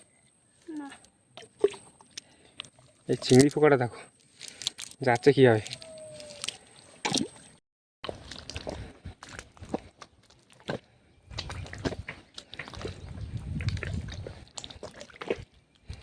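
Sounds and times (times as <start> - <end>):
water and mud sloshing: 1.4 - 16.0.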